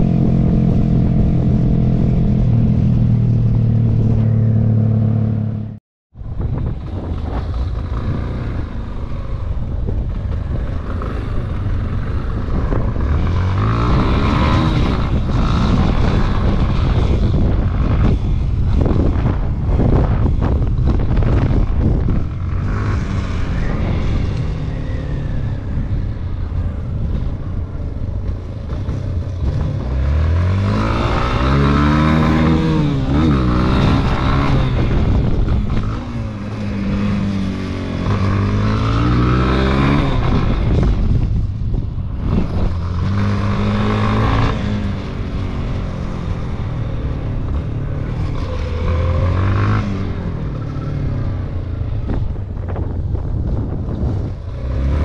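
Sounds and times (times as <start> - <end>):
wind on microphone: 6.2 - 55.0
motorcycle engine revving: 6.5 - 55.0.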